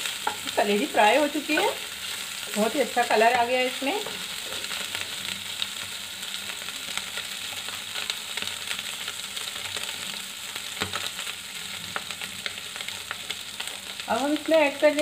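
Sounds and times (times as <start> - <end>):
liver sizzling in hot oil: 0.0 - 15.0.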